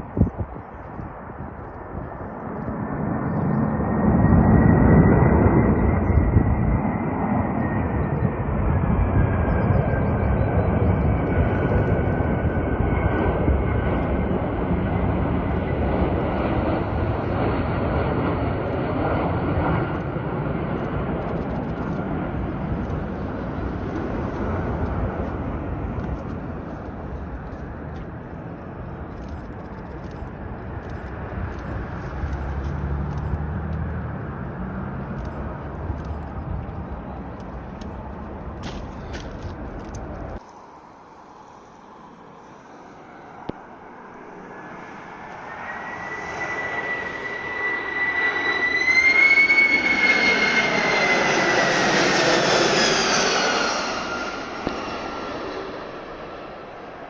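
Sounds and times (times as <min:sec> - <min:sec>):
jet engines rumbling with whine: 0:00.0 - 0:57.0.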